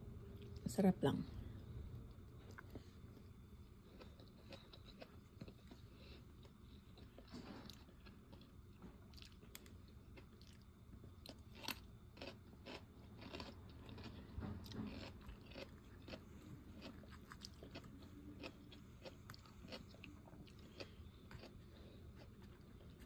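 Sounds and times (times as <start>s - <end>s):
person chewing crunchy food: 1.6s - 23.0s.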